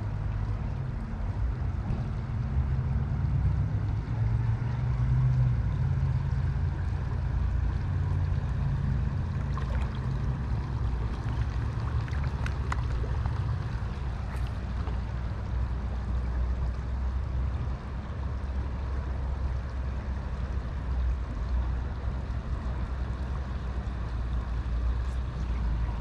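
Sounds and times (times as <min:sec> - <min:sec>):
river water rumbling: 0:00.0 - 0:26.0.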